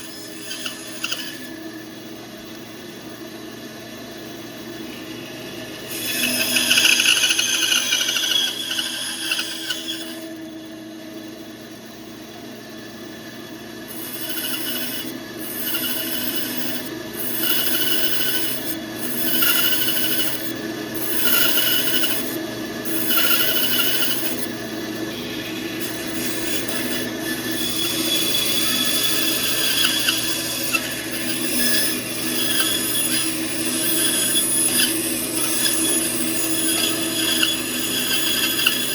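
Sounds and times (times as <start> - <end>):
band saw cutting wood: 0.0 - 1.6, 5.8 - 10.4, 13.9 - 38.9.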